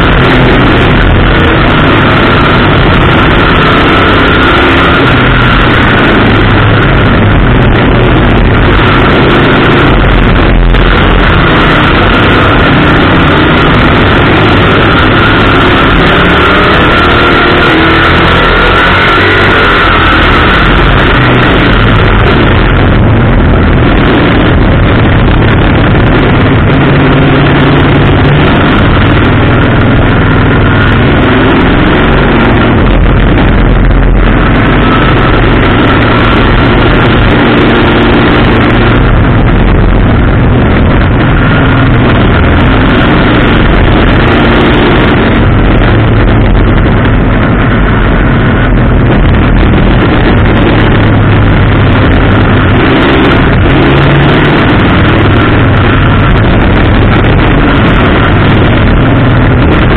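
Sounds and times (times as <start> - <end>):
race car engine running hard: 0.0 - 59.9
wind and road noise: 0.0 - 59.9.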